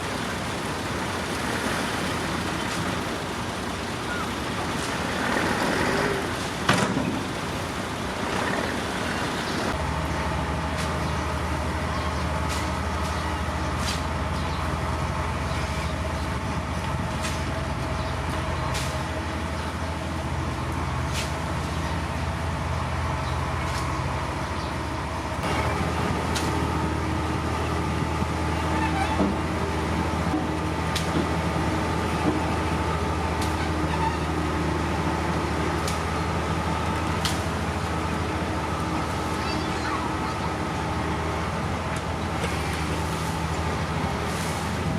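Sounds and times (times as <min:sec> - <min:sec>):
heavy diesel engine droning: 0:00.0 - 0:44.9.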